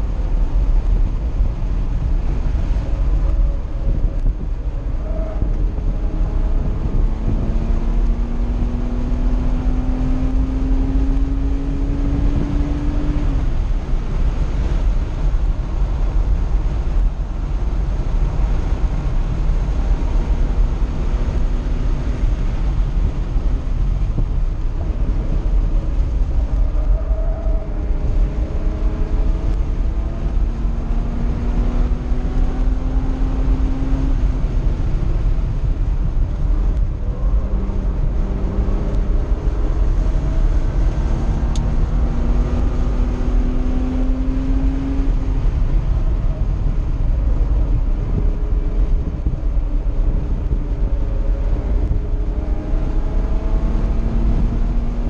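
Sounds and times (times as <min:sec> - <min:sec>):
car engine at speed: 0:00.0 - 0:55.0
heavy wind: 0:00.0 - 0:55.0
road rumble: 0:00.0 - 0:55.0.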